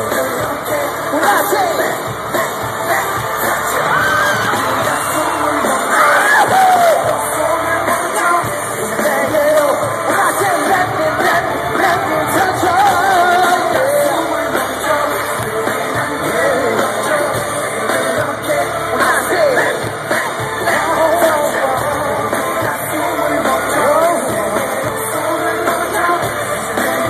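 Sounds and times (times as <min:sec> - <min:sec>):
fans yelling: 0:00.0 - 0:27.0
live amplified pop music: 0:00.0 - 0:27.0
person singing: 0:00.0 - 0:27.0.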